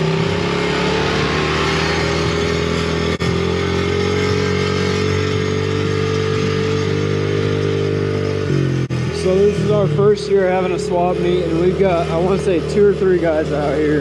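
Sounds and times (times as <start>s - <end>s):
pit bike engine running: 0.0s - 14.0s.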